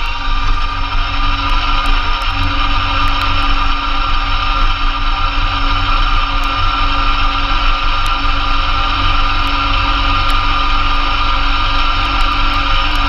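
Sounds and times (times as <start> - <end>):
snowblower through snow: 0.0 - 13.0
tractor diesel engine running: 0.0 - 13.0.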